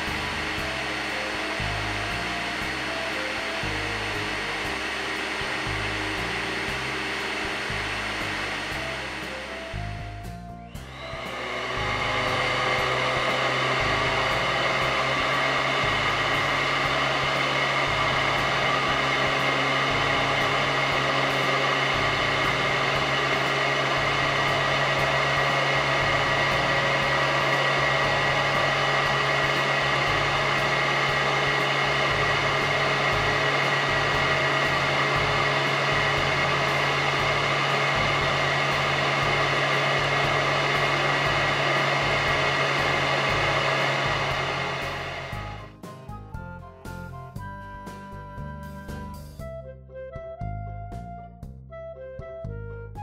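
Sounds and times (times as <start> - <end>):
vacuum cleaner motor whining: 0.0 - 47.0.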